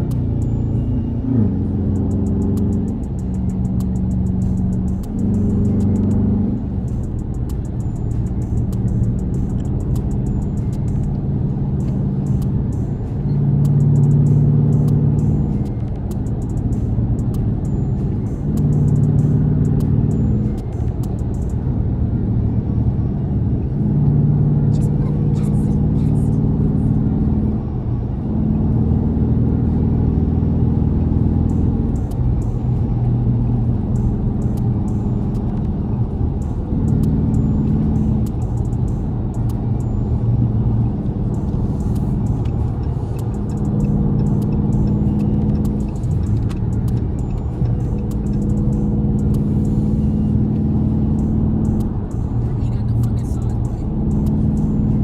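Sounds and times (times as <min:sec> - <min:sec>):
car engine accelerating: 0:00.0 - 0:55.0
road noise inside car: 0:00.0 - 0:55.0.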